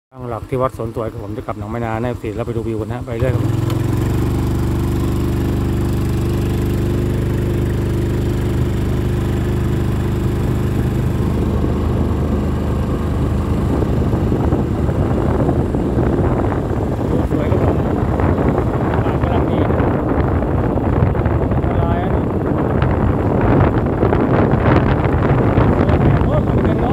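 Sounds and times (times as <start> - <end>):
vehicle engine running: 0.2 - 26.9
wind noise on microphone: 3.2 - 26.9.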